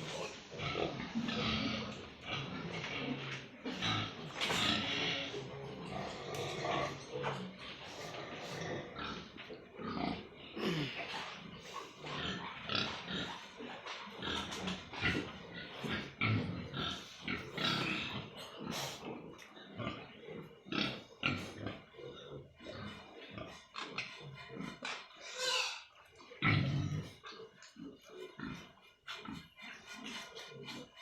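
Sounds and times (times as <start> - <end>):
pigs grunting and squealing: 0.0 - 31.0.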